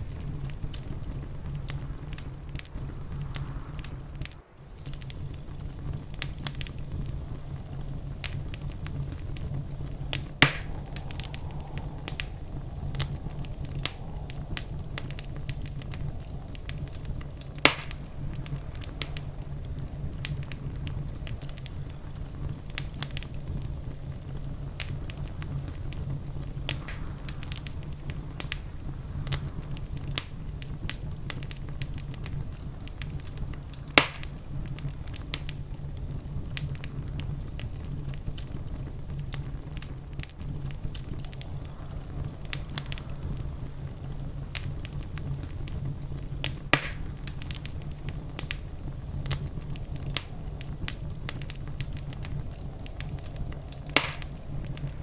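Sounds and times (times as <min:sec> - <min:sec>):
fire crackling in fireplace: 0:00.0 - 0:55.0
loud sharp fire pops: 0:00.0 - 0:55.0.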